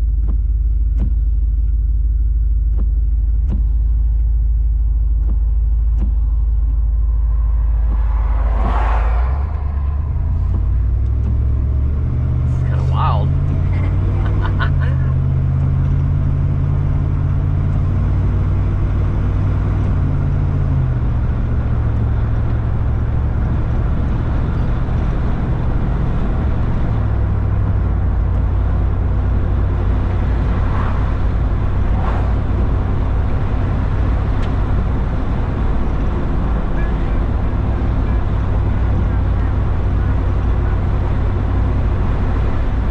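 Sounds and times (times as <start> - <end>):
road noise: 0.0 - 42.9
vehicle engine drone: 0.0 - 42.9.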